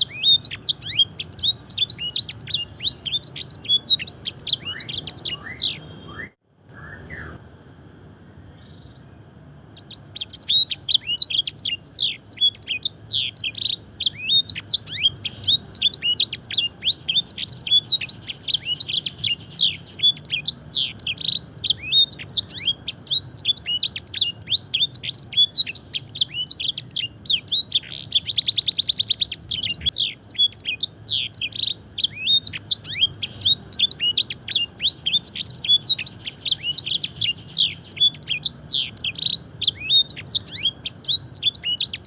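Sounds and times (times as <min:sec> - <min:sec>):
canary singing: 0:00.0 - 0:07.5, 0:08.4 - 0:42.0.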